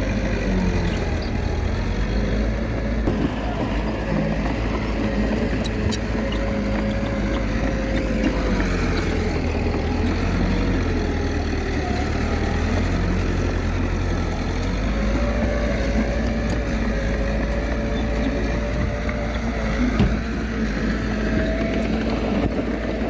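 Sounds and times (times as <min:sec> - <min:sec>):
bulldozer diesel engine under load: 0:00.0 - 0:23.0.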